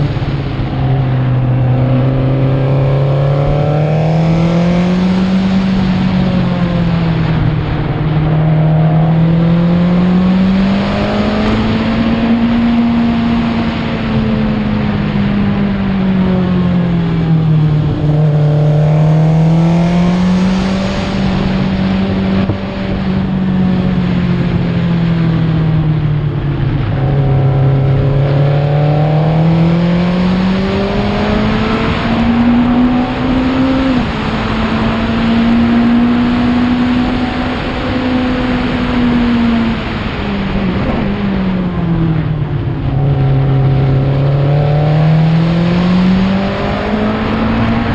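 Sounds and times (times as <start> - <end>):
racing engine at speed: 0.0 - 47.9.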